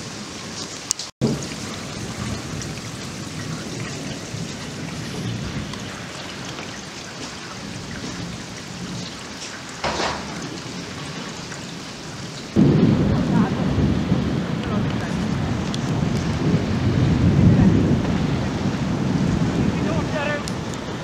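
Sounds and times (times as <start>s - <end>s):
wind rushing over microphone: 1.2s - 21.0s.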